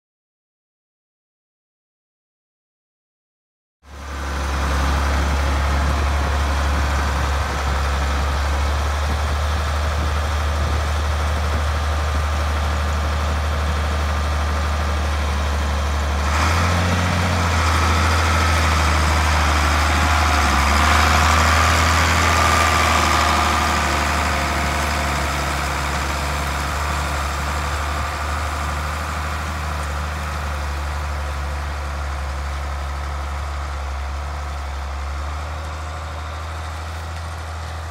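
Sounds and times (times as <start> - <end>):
tractor diesel engine running: 3.9 - 37.9.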